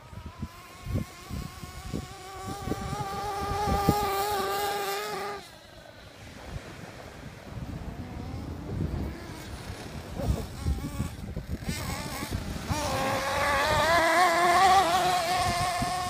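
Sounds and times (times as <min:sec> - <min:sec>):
rc truck motor buzzing: 0:00.0 - 0:06.2, 0:07.7 - 0:16.0
wind buffeting microphone: 0:00.0 - 0:16.0.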